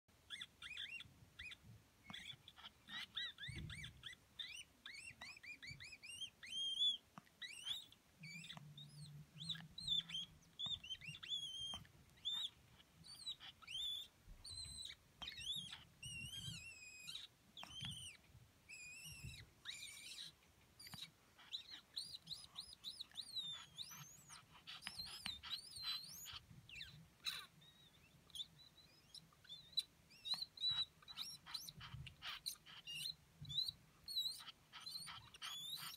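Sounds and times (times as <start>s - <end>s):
dog whining squeals: 0.3s - 35.9s.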